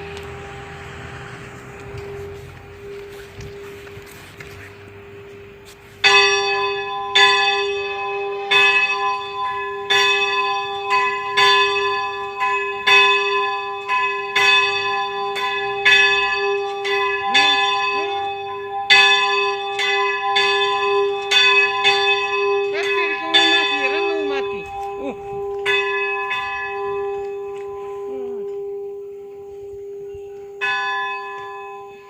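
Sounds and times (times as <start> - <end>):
church bell ringing: 0.0 - 32.0.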